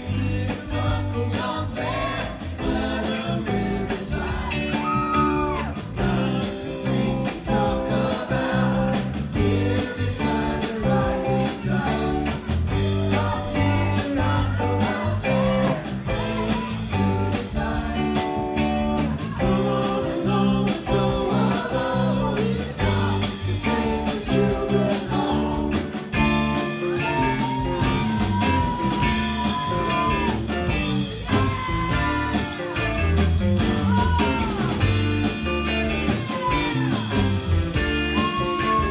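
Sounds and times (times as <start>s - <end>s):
held guitar lead line: 0.0s - 38.9s
rock band playing: 0.0s - 38.9s.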